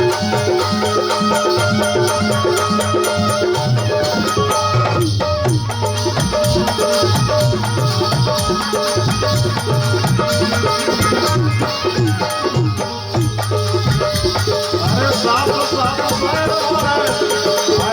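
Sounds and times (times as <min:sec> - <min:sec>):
devotional folk music: 0:00.0 - 0:17.9.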